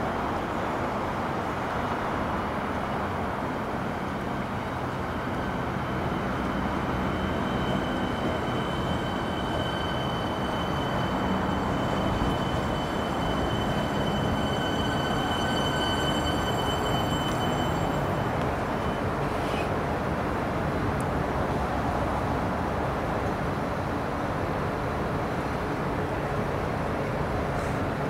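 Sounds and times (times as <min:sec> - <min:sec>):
high steady train whine: 0:00.0 - 0:28.0
train wheels rumbling on rails: 0:00.0 - 0:28.0.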